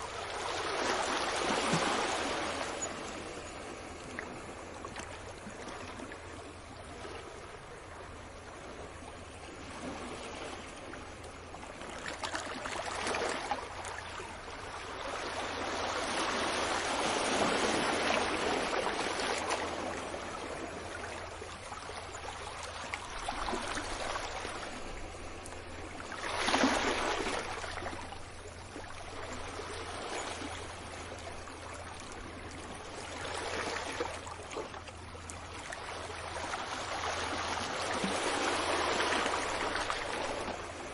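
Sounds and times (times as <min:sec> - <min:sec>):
waves washing onto beach: 0:00.0 - 0:40.9.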